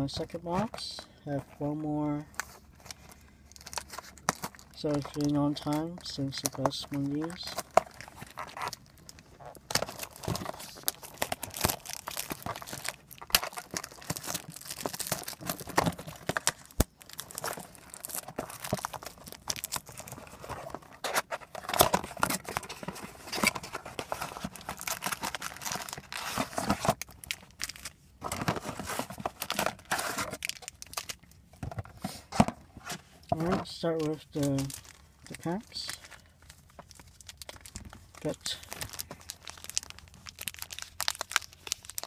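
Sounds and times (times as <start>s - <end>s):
plastic wrap crinkling: 2.3s - 31.6s, 32.8s - 42.0s.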